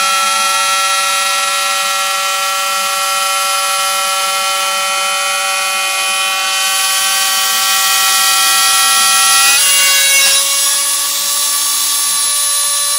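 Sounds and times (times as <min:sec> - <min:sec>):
rotary tool whining while cutting: 0:00.0 - 0:12.9.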